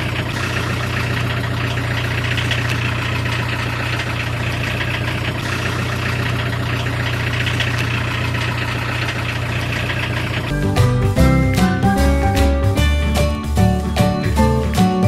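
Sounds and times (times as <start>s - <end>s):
van engine idling: 0.0s - 15.0s.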